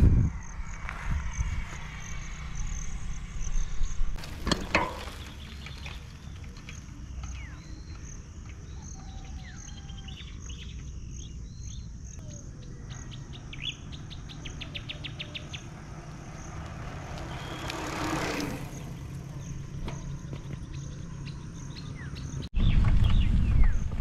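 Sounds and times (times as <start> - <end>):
birds chirping: 1.8 - 23.8.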